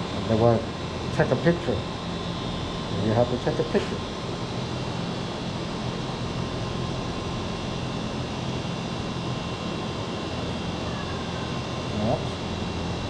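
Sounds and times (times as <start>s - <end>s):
faint steady whine: 0.0s - 13.0s
mechanical hum and hiss: 0.0s - 13.0s.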